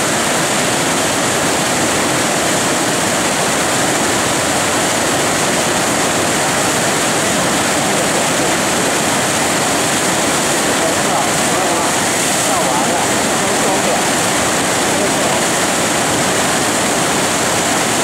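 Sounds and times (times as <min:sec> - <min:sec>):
white water rushing: 0:00.0 - 0:18.0.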